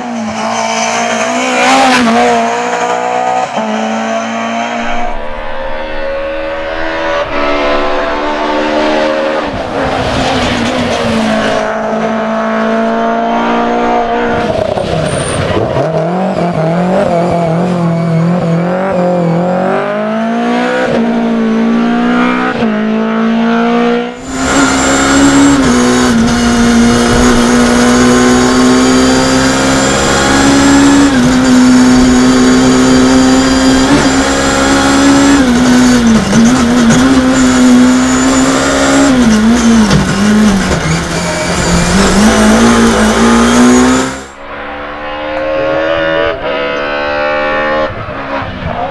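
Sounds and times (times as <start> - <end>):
rally car engine at full throttle: 0.0 - 48.9.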